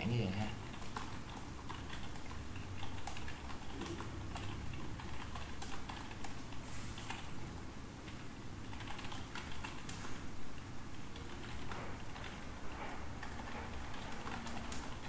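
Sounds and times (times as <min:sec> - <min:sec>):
keyboard typing: 0:00.4 - 0:15.0.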